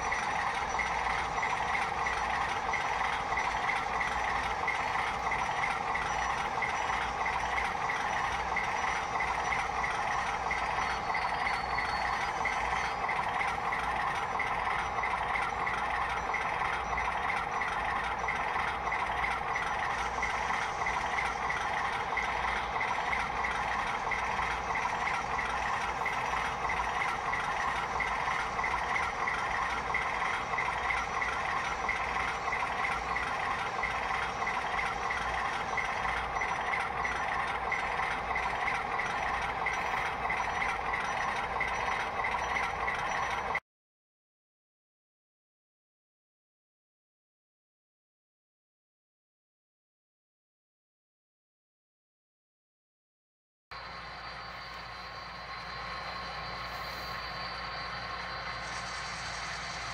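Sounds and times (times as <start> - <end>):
model trains rattling and whirring: 0.0 - 43.6, 53.8 - 59.9.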